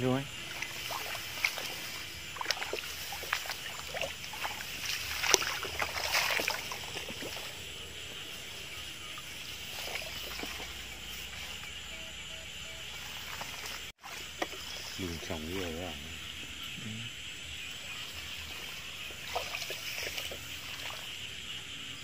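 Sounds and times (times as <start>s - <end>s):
wading through wet grass: 0.0s - 16.4s, 17.3s - 22.0s
frogs chorus: 0.0s - 22.0s.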